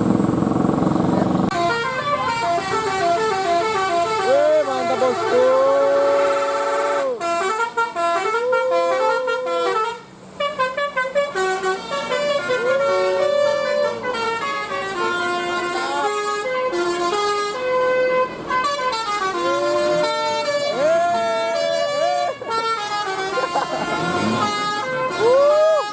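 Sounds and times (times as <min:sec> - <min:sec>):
bus musical horn melody: 0:01.5 - 0:25.9.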